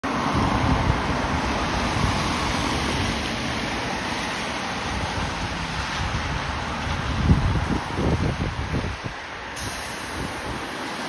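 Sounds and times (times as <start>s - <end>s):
bus engine rumble: 0.0s - 11.0s
tyres hissing on wet asphalt: 0.1s - 11.0s.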